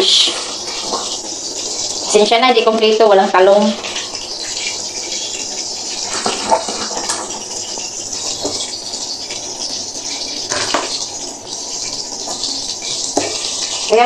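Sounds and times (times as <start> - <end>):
pot boiling with bubbling hiss: 0.0 - 14.0.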